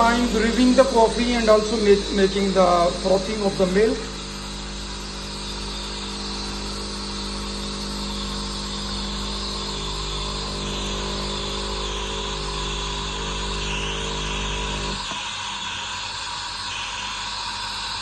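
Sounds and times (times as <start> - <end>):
coffee machine humming and hissing: 0.0 - 18.0.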